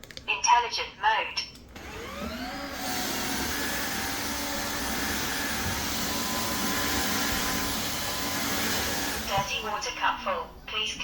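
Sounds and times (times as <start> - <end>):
vacuum cleaner running: 1.8 - 10.6.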